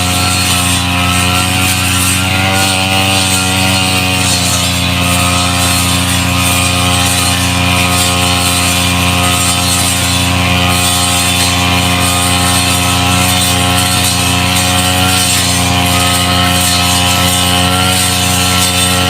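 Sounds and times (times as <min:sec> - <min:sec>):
brush cutter engine running: 0:00.0 - 0:19.0.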